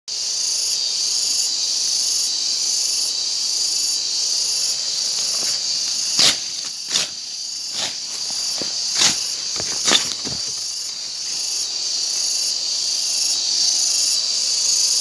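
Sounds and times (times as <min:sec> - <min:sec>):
higher pulsing insect layer: 0:00.1 - 0:15.0
insects shrilling: 0:00.2 - 0:15.0.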